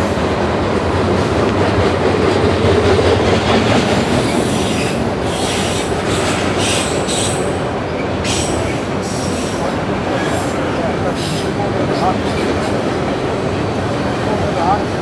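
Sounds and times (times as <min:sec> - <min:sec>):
railway cars rumbling past: 0:00.0 - 0:15.0.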